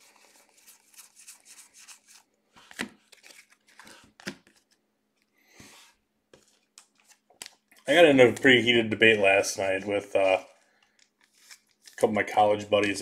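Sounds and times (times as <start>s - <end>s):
trading cards rustling and clicking: 0.0s - 4.8s, 6.4s - 13.0s.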